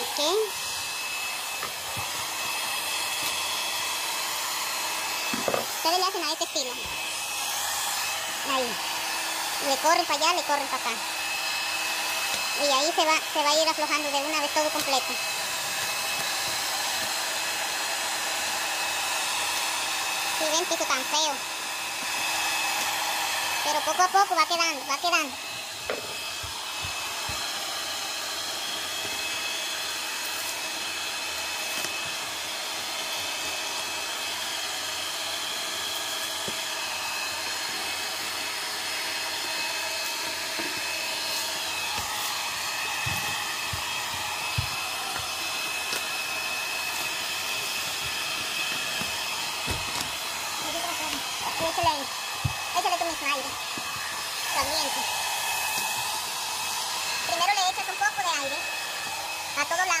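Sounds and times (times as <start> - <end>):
heat gun blowing hot air: 0.0 - 60.0.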